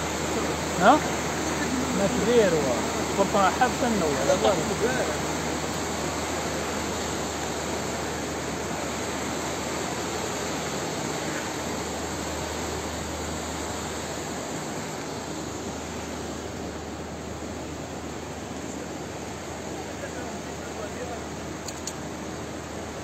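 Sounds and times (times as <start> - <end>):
floodwater rushing down street: 0.0 - 23.0.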